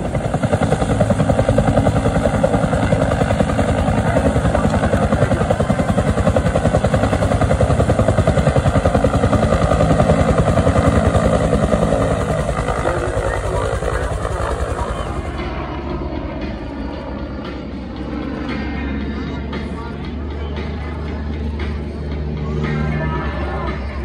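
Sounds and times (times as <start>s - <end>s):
helicopter rotor beating: 0.0s - 24.0s.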